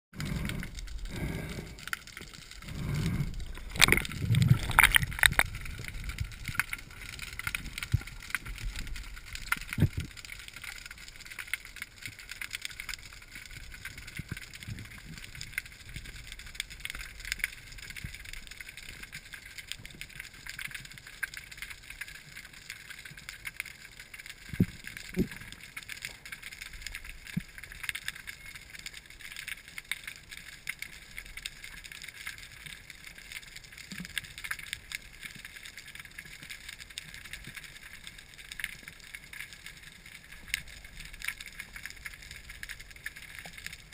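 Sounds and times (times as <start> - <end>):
underwater crackling hiss: 0.2 - 43.9.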